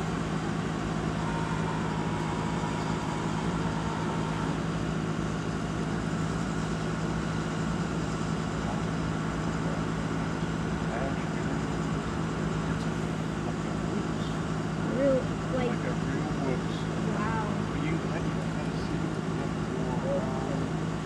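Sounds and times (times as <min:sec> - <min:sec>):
machine engine humming: 0:00.0 - 0:21.0.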